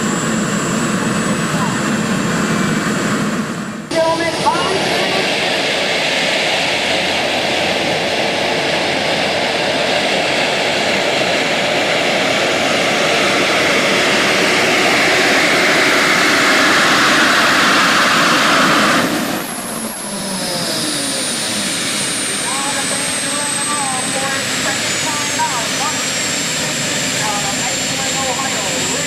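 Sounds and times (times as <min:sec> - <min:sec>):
engine at full throttle: 0:00.0 - 0:29.0.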